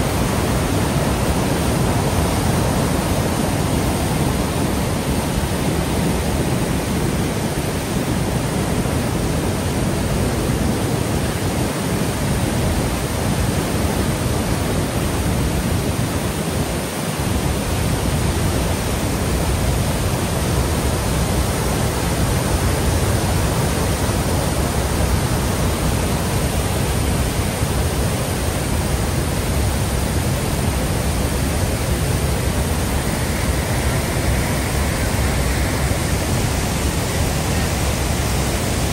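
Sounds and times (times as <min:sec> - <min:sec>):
floodwater rushing over rocks: 0:00.0 - 0:38.9.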